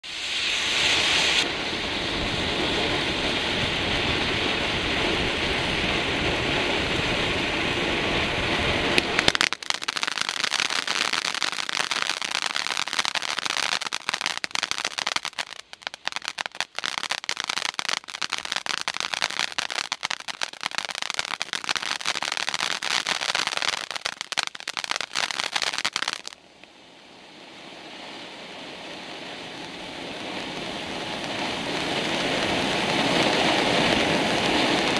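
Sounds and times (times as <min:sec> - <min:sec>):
firework crackling: 0:00.0 - 0:34.9
firework hissing: 0:00.0 - 0:34.9.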